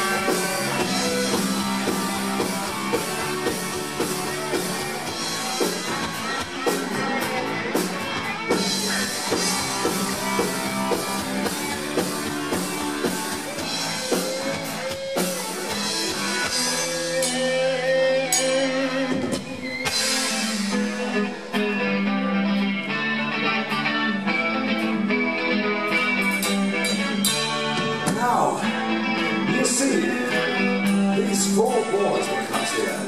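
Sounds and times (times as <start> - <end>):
rock band playing live: 0.0 - 33.0.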